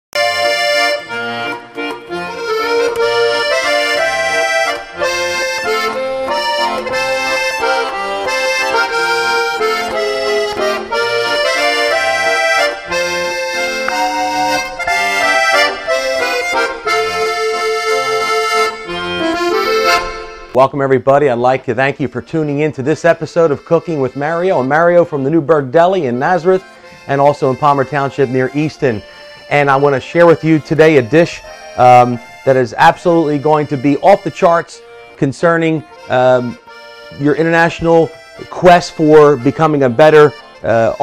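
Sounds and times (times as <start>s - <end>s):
instrumental intro music: 0.2s - 20.6s, 23.1s - 41.0s.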